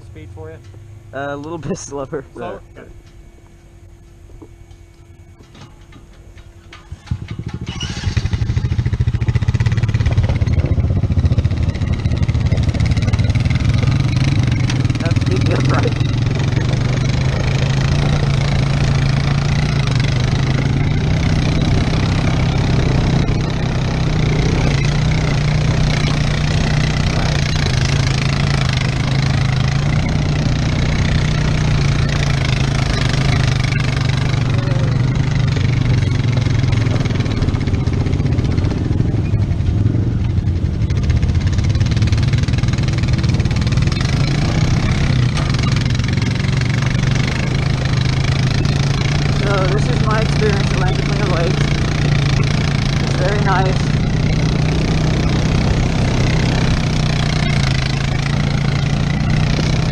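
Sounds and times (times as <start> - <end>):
quad bike engine running at low speed: 0.0 - 59.9.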